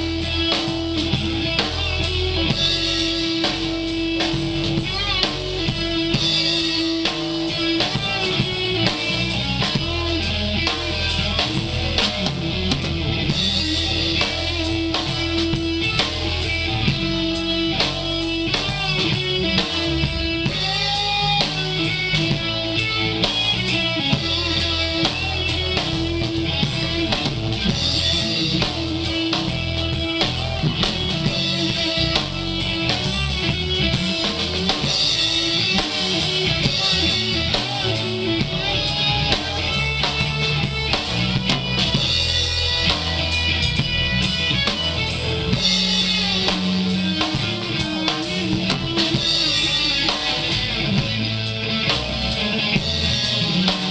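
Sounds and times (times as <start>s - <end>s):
drum kit: 0.0s - 53.9s
electric guitar: 0.0s - 53.9s.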